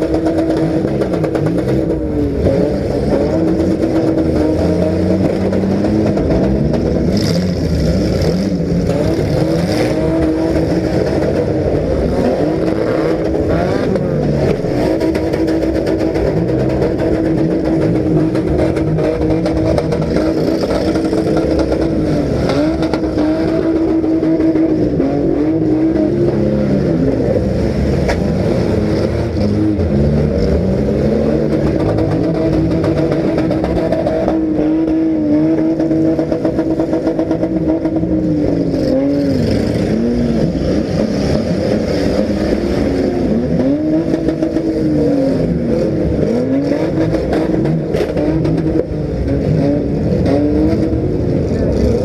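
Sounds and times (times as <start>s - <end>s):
car engines revving hard: 0.0s - 52.0s.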